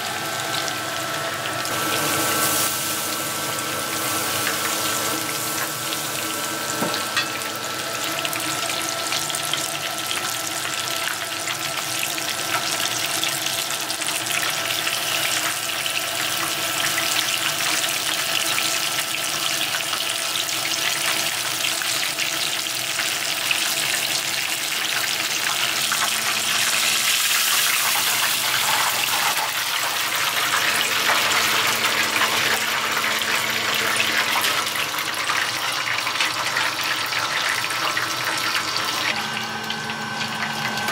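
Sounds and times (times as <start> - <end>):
batter sizzling in hot oil: 0.0 - 40.9.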